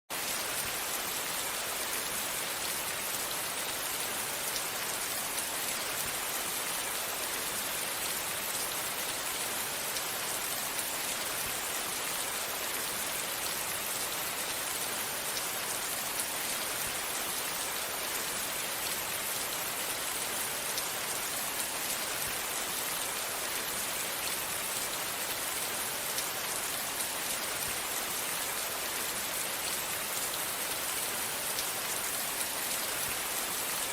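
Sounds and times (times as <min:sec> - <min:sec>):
rain falling on vegetation: 0:00.1 - 0:33.9.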